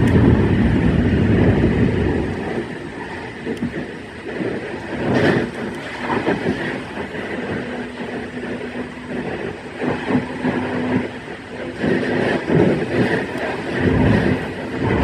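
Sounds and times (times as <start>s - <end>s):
steady low hum: 0.0s - 15.0s
train running noise: 0.0s - 15.0s.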